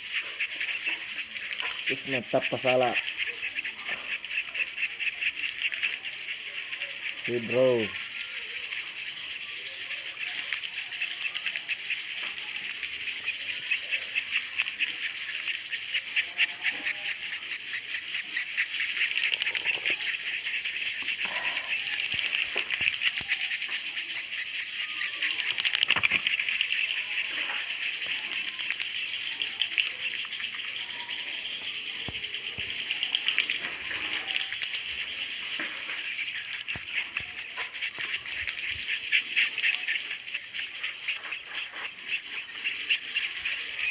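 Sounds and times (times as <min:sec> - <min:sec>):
fast repeated bird trill: 0:00.0 - 0:43.9
swiftlets twittering chorus: 0:00.0 - 0:43.9.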